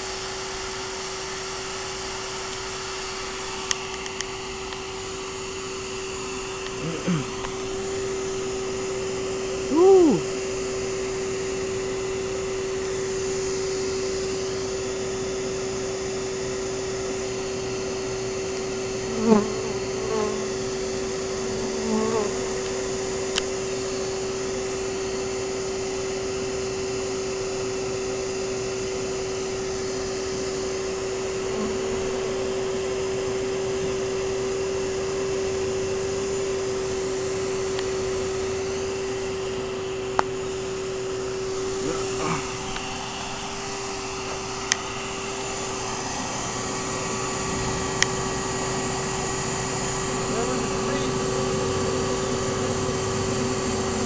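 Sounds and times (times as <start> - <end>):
vacuum motor hum: 0.0 - 54.0.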